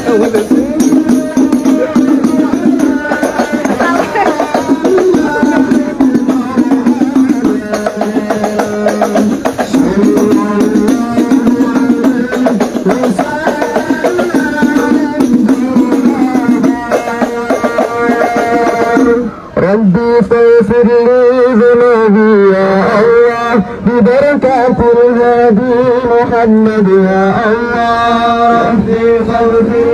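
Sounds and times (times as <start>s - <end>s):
crowd noise: 0.0s - 29.9s
music with drums and singing: 0.0s - 29.9s.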